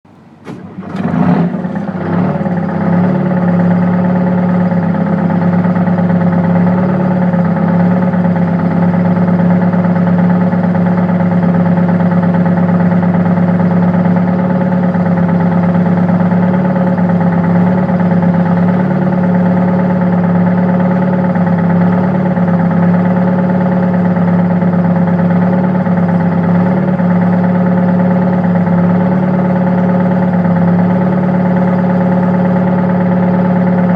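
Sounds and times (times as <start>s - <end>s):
car engine idling with misfire: 0.0s - 33.9s.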